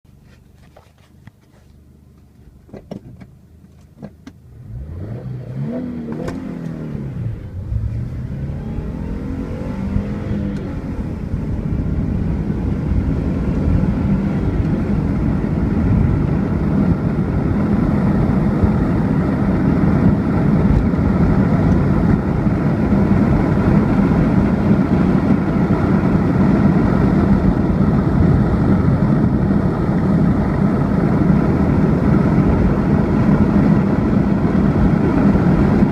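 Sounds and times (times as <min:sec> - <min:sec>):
road and wind roar: 0:00.1 - 0:35.9
car engine accelerating hard: 0:04.4 - 0:35.9.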